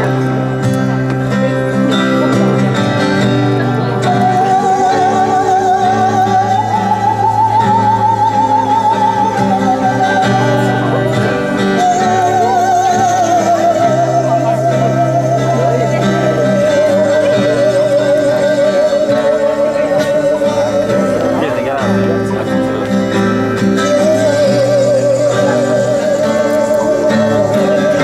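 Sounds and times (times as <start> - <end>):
high voice singing with vibrato: 3.7 - 22.0, 22.7 - 28.0.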